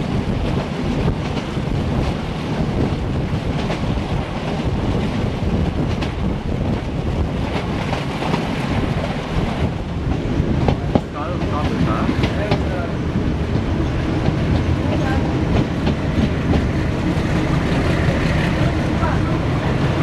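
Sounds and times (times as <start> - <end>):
train rumbling on track: 0.0 - 20.0
wind buffeting the microphone: 0.0 - 20.0.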